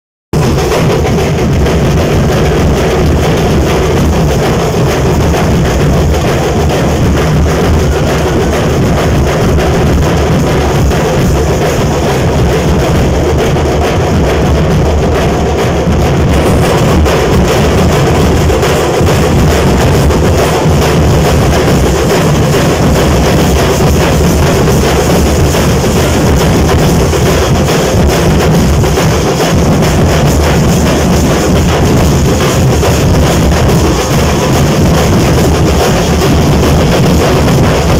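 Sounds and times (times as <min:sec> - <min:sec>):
barrel drums beaten with sticks: 0:00.3 - 0:37.9.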